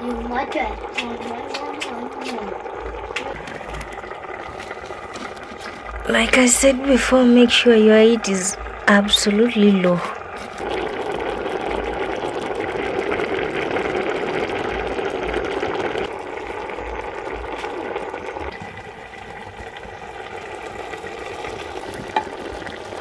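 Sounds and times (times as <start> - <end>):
pot boiling with bubbling hiss: 0.0 - 23.0.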